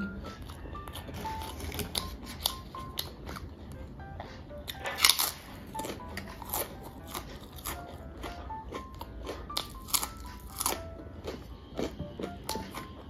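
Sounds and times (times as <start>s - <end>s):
crunching chip being chewed: 0.4s - 3.5s, 4.7s - 12.9s.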